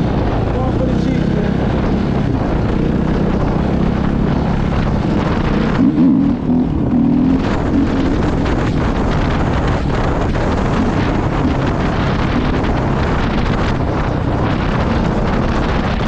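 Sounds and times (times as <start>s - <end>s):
dirt bike engine running: 0.0s - 16.0s
wind noise on microphone: 0.0s - 16.0s.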